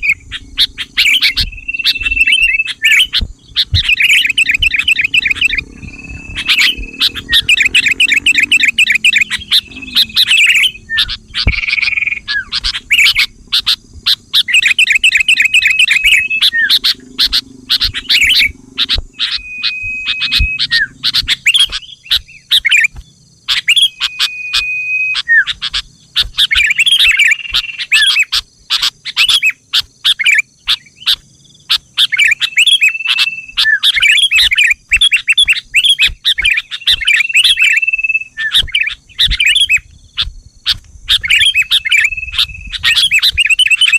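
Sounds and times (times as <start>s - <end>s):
bird whistled notes: 0.0s - 43.9s
bulbuls chattering chirps: 0.0s - 43.9s.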